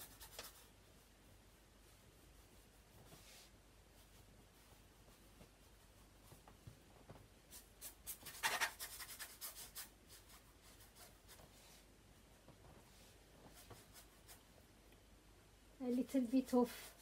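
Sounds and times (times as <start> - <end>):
paintbrush strokes on canvas: 0.0 - 14.7, 15.8 - 17.0.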